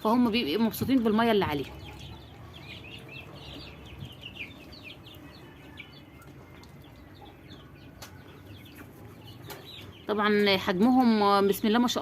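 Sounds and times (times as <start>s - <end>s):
chicks peeping: 0.1s - 12.0s.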